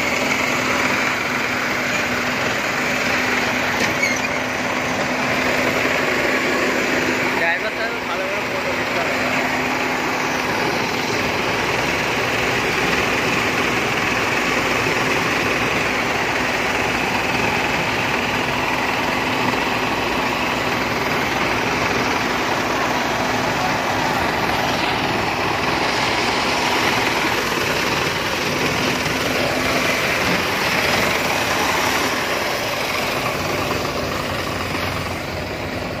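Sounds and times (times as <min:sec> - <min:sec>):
combine harvester running: 0:00.0 - 0:36.0
even machine hum: 0:00.0 - 0:36.0.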